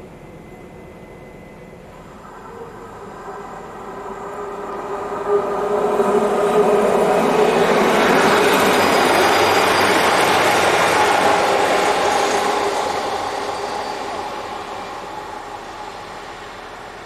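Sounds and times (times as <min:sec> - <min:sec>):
diesel train engine drone: 0:00.0 - 0:17.0
train wheel rumble: 0:00.0 - 0:17.0.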